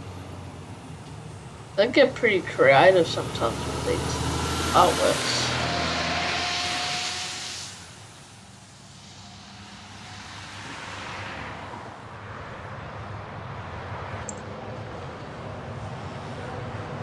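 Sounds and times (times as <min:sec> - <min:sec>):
trucks driving past: 0:00.0 - 0:17.0.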